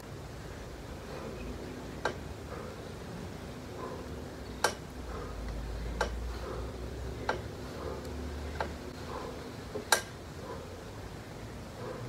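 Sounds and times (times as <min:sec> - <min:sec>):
elliptical trainer clicking: 0:00.0 - 0:10.9.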